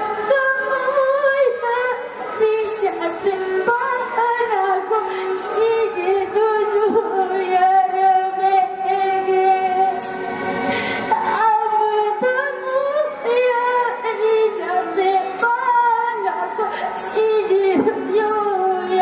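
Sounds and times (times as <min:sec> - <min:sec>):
woman singing folk song: 0:00.0 - 0:10.1, 0:11.1 - 0:19.0
musical accompaniment: 0:00.0 - 0:19.0.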